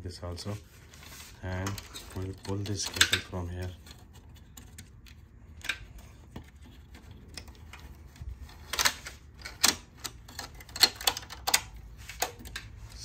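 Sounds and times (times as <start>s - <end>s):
plastic and metal parts clicking: 1.5s - 13.0s.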